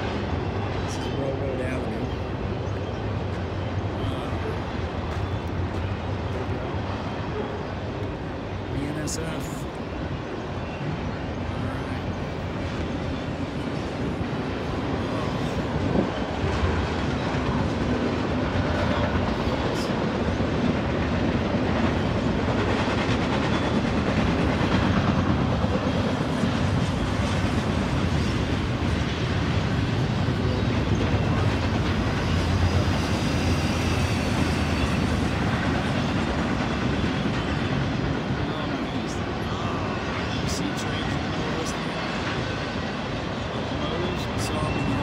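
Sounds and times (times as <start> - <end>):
freight train wheels on rails: 0.0 - 45.0.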